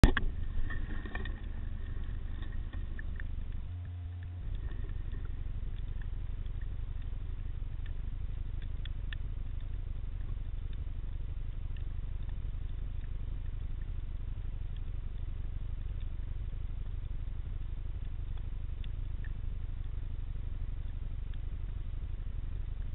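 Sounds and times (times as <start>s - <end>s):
faint clicks: 0.0s - 22.9s
low underwater rumble: 0.0s - 22.9s.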